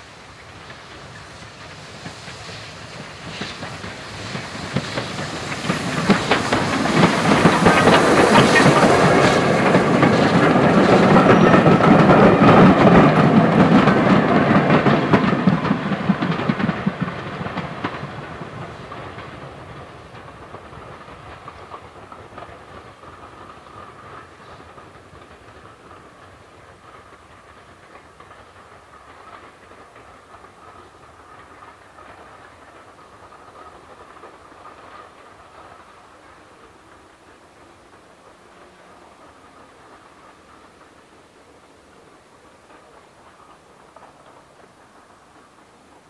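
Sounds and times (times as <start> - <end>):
steam train passing: 0.0 - 46.0
wheels knocking and clattering: 0.6 - 41.1.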